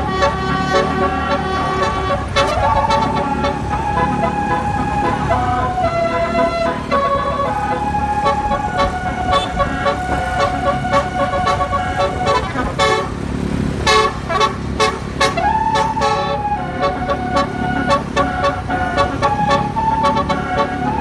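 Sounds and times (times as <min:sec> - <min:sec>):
engine rumble: 0:00.0 - 0:21.0
tuned air horns playing a tune: 0:00.0 - 0:21.0.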